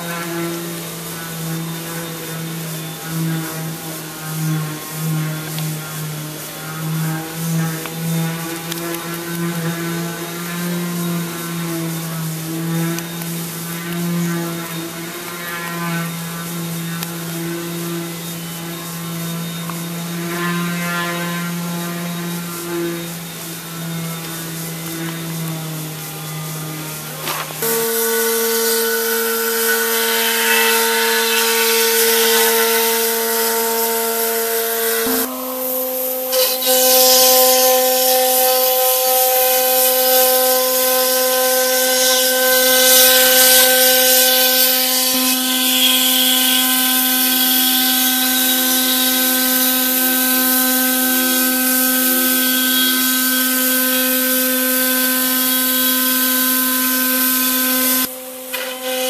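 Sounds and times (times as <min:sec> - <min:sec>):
bit cutting plywood hiss: 0:00.0 - 0:59.0
router spindle whine: 0:00.0 - 0:59.0.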